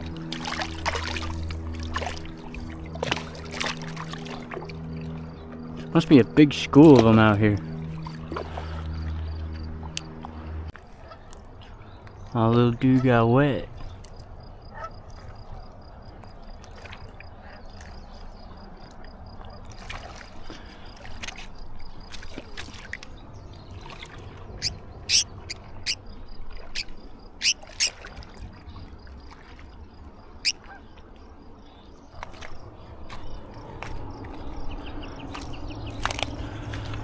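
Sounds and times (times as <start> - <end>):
water trickling: 0.0 - 10.7, 11.3 - 37.0.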